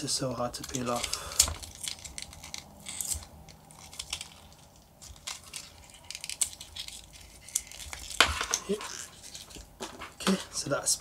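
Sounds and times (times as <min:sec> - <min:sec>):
wrapper crinkling: 0:00.6 - 0:10.6.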